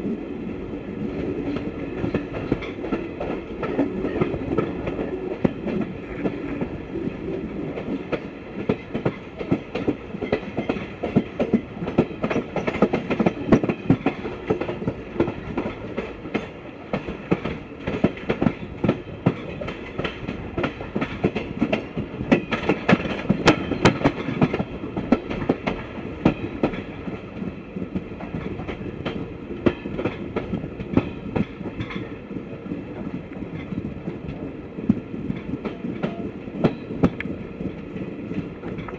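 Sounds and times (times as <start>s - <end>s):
rumble of train coaches: 0.0s - 38.9s
train wheels clattering over joints: 1.0s - 38.9s.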